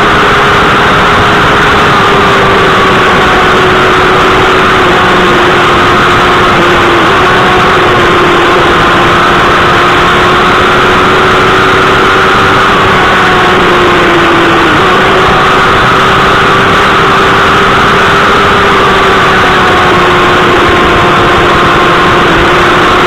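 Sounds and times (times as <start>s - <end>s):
motorcycle engine at high revs: 0.0s - 23.0s.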